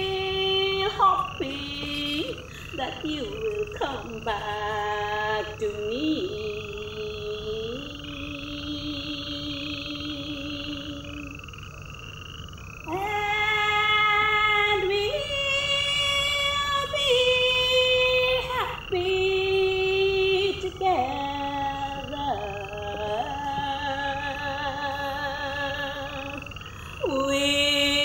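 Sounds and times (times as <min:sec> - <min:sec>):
woman singing a slow lament: 0:00.0 - 0:11.5, 0:12.8 - 0:28.0.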